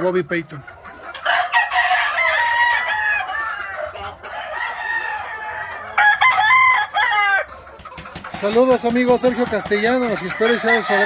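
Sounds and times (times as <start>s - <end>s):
roosters crowing: 0.9s - 11.0s.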